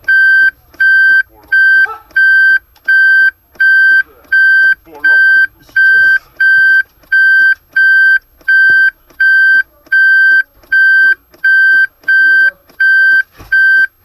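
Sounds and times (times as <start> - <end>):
reverse warning beeps: 0.0 - 13.9.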